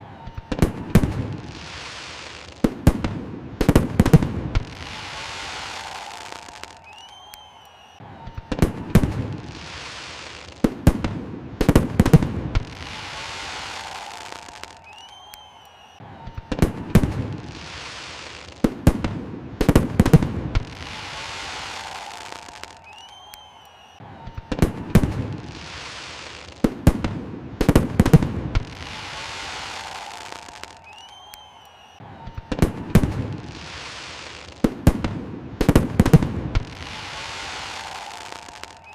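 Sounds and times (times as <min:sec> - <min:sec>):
fireworks bangs: 0:00.0 - 0:38.9
faint firework whistle: 0:00.1 - 0:38.9
fireworks hissing and crackle: 0:00.3 - 0:38.9.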